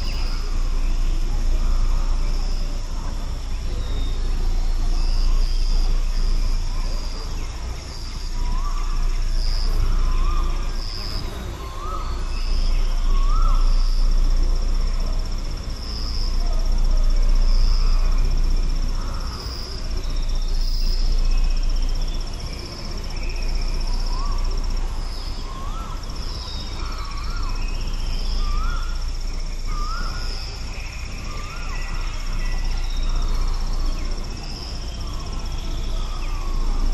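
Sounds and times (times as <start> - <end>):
high insect trill: 0.0 - 36.9.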